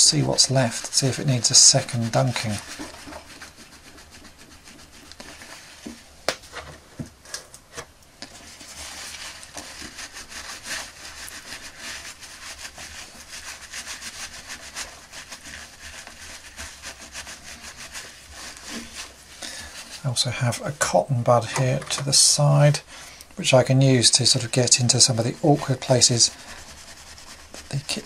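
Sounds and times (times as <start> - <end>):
paper towel rubbing plastic: 0.0 - 6.6, 8.2 - 28.0.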